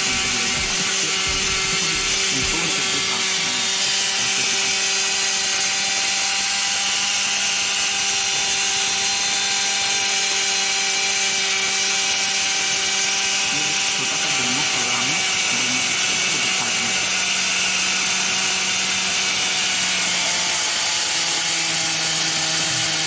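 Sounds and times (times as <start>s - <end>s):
concrete cutting machine: 0.0s - 23.0s.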